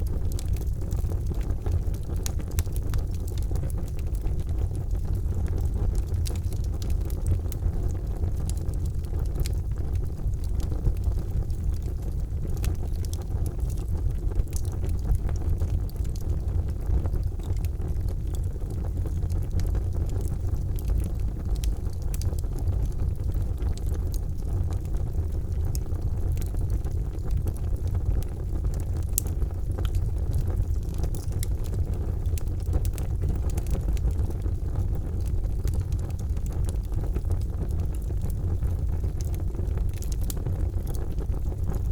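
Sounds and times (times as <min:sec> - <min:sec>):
fire crackling and popping: 0:00.0 - 0:41.9
fire rumbling: 0:00.0 - 0:41.9.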